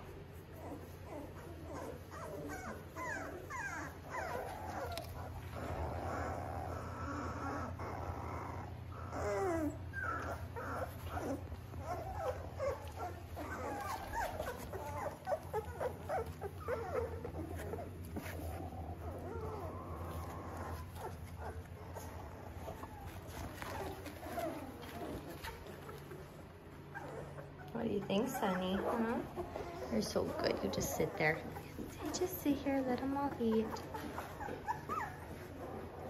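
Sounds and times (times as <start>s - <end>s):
low steady hum: 0.0s - 36.0s
puppies squeaking and whimpering: 0.4s - 36.0s.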